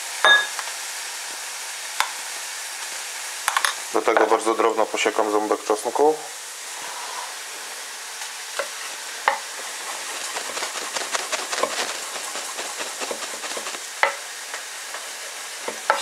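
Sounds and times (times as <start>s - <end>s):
meat sizzling on grill pan: 0.0s - 16.0s.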